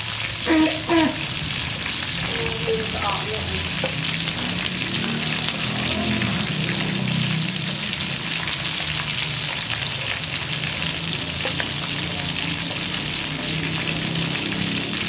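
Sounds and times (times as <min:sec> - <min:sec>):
chicken sizzling in a wok: 0:00.0 - 0:15.0.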